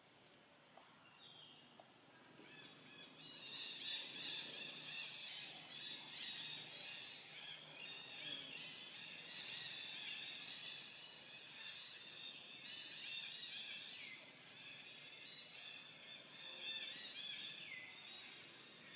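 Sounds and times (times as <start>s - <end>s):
small birds chirping: 0.8s - 18.9s.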